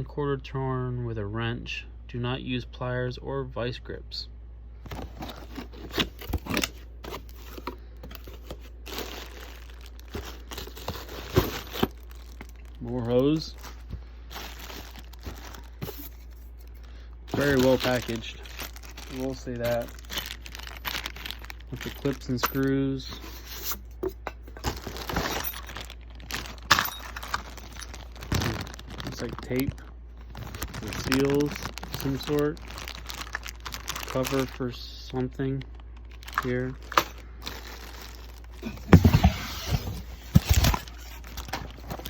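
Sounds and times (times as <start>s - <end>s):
sharp handling noises: 4.8s - 12.8s, 13.5s - 34.6s, 35.6s - 42.0s
packaging crinkling: 4.9s - 23.8s, 24.5s - 34.8s, 35.5s - 42.0s.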